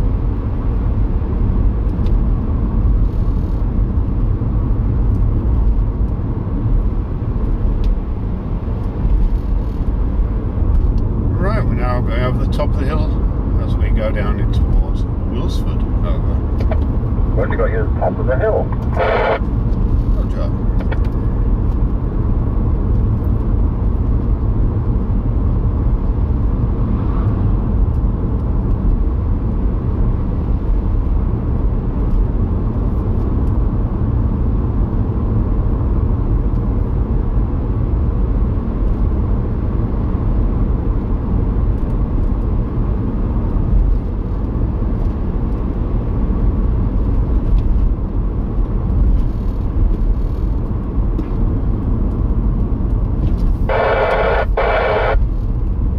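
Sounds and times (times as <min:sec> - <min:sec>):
car road and engine noise: 0:00.0 - 0:55.9.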